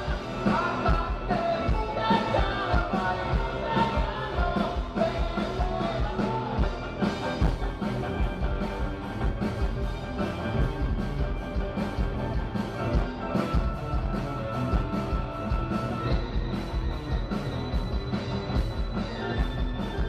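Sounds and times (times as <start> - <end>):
music with steady drum beat: 0.0 - 20.0.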